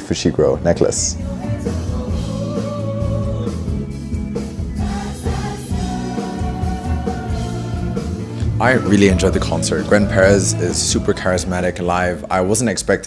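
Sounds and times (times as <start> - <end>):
bass guitar: 0.0 - 12.8
drums: 0.0 - 13.0.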